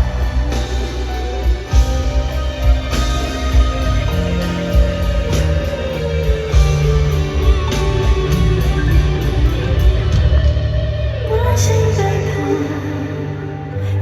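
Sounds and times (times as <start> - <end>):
band playing instrumental music: 0.0 - 13.8
guitar: 0.0 - 14.0.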